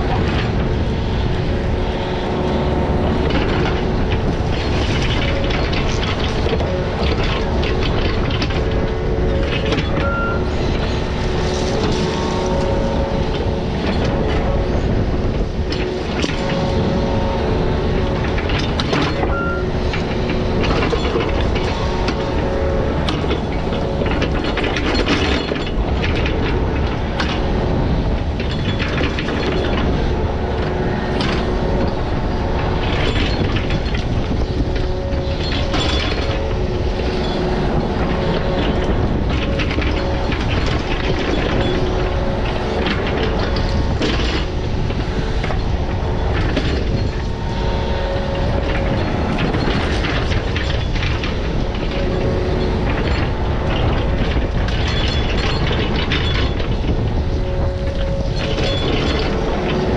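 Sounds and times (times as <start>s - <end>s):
digging machine engine hum: 0.0s - 59.9s
metal and rock clanking: 0.0s - 59.9s.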